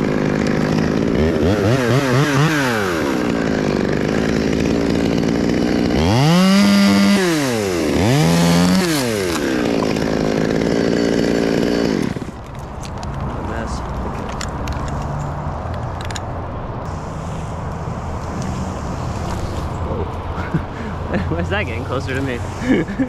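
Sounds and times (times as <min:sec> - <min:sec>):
chainsaw revving: 0:00.0 - 0:12.5, 0:16.9 - 0:23.0.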